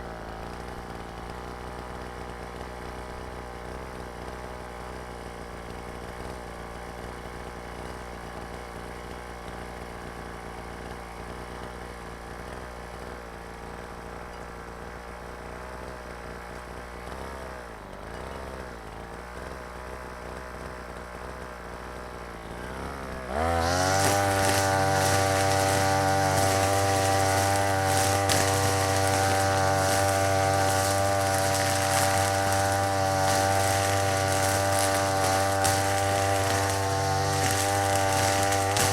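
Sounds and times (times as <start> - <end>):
brush cutter engine: 0.0 - 38.9.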